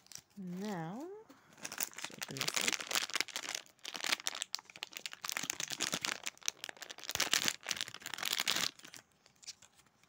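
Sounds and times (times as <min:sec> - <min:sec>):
plastic wrapper crinkling: 0:00.0 - 0:10.0.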